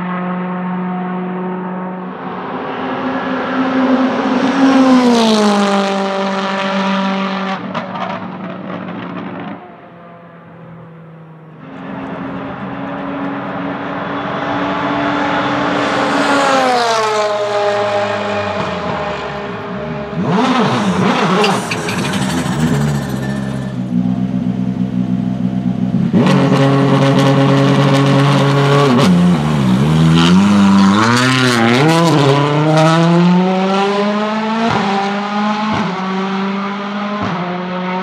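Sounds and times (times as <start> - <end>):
car engine revving: 0.0 - 38.0
race cars driving past: 0.0 - 38.0.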